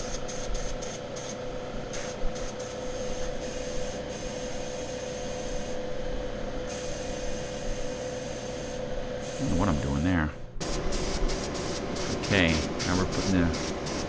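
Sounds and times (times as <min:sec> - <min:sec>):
airbrush spray hissing: 0:00.0 - 0:05.8, 0:06.7 - 0:10.0, 0:10.6 - 0:14.0
steady machine hum: 0:00.0 - 0:14.0.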